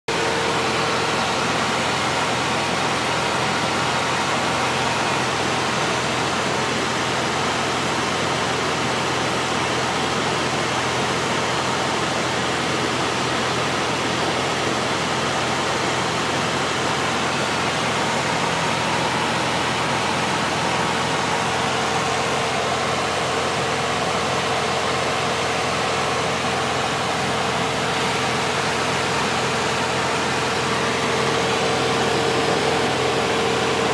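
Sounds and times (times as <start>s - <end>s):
propeller plane engine drone: 0.1s - 33.9s.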